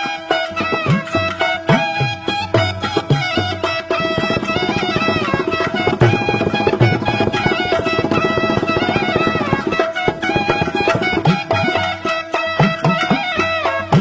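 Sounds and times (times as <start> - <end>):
winding melody: 0.3 - 13.8
rapid drumming: 0.7 - 14.0.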